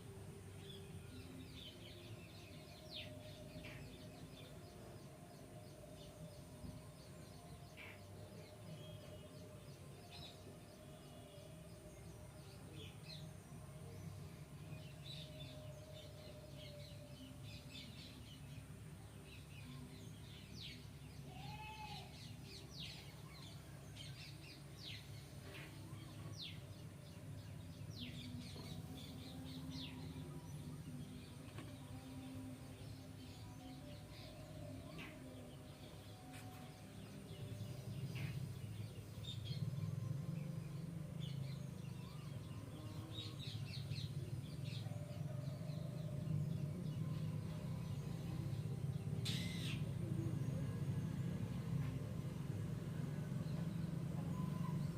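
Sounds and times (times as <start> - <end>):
birds chirping: 0.0 - 54.9
faint steady low hum: 0.0 - 54.9.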